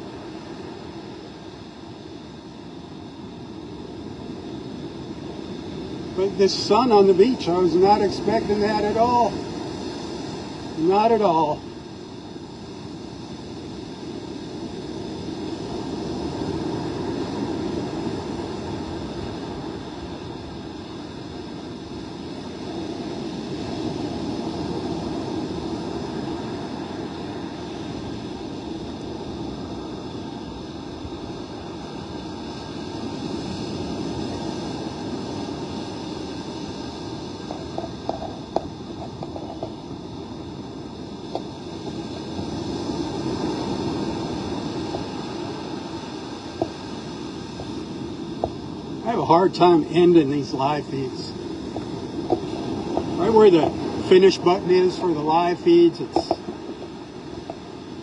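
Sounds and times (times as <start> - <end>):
gusty wind: 0.0 - 58.0
surf on beach: 0.0 - 58.0.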